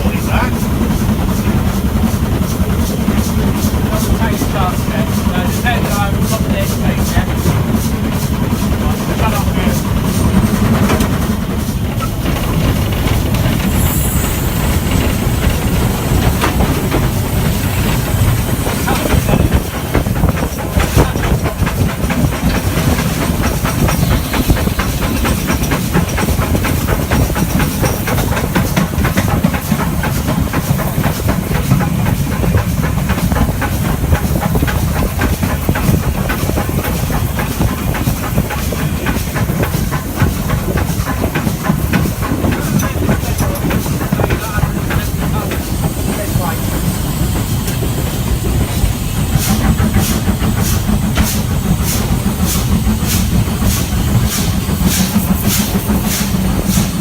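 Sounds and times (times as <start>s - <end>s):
heavy low rumble: 0.0s - 57.0s
steam hissing: 0.0s - 57.0s
wheels clicking on rails: 0.0s - 57.0s.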